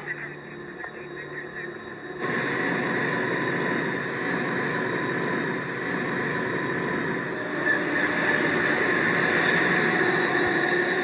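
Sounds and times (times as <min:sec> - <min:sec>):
rumble of train wheels: 0:00.0 - 0:11.0.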